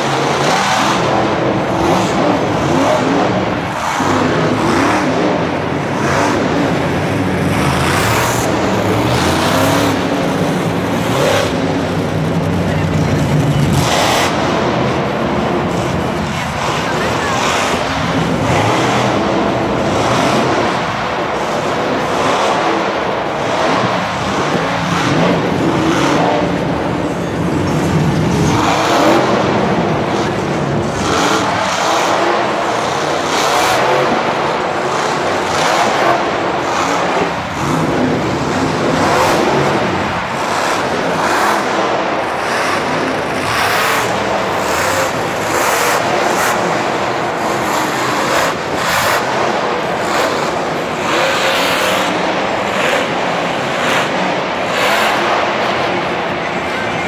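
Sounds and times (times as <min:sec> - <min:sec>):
crowd noise: 0:00.0 - 0:57.0
monster truck engine revving: 0:00.0 - 0:57.0.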